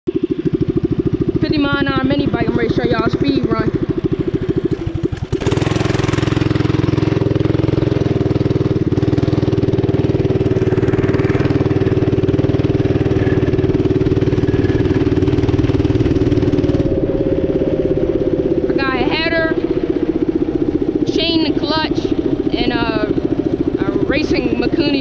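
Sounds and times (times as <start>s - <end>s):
mini bike engine revving: 0.2s - 25.0s.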